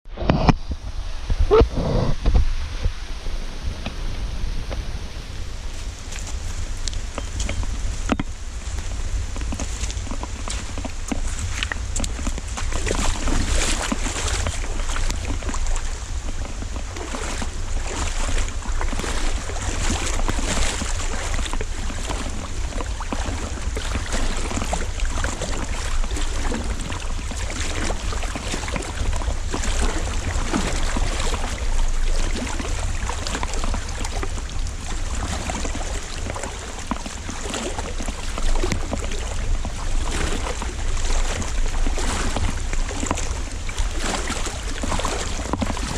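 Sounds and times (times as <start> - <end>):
wind rumbling on microphone: 0.0 - 45.9
water sloshing and splashing: 3.6 - 45.9.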